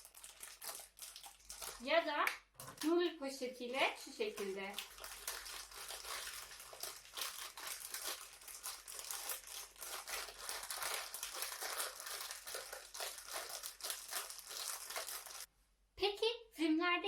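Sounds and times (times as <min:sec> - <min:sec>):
plastic packet crinkling: 0:00.0 - 0:15.5.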